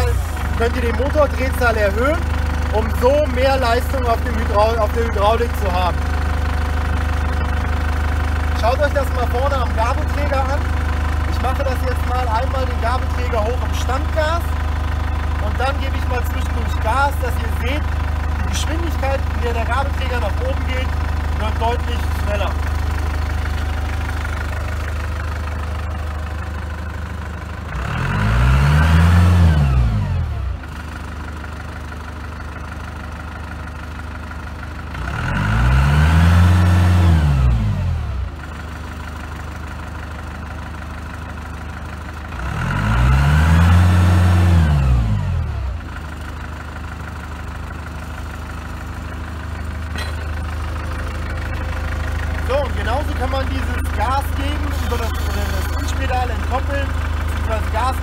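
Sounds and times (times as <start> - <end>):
forklift engine revving: 0.0 - 58.0.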